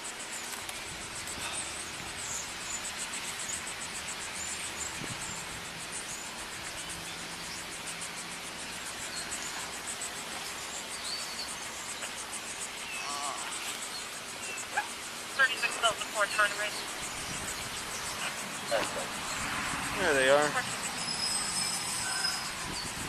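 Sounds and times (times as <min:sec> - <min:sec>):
insects trilling: 0:00.0 - 0:23.0
steady background hiss: 0:00.0 - 0:23.0.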